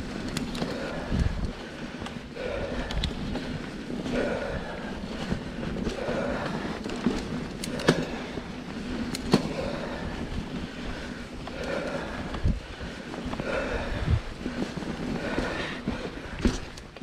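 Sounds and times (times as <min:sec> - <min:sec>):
bike rattling clacks: 0:00.0 - 0:17.0
bike tyres on dirt trail: 0:00.0 - 0:17.0.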